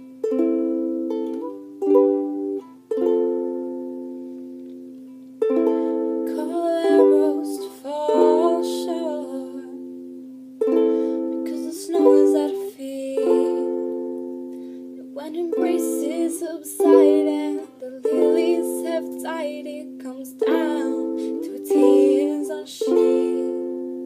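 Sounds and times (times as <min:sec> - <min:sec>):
picked ukulele notes: 0:00.0 - 0:24.0
ukulele chords: 0:00.0 - 0:24.0.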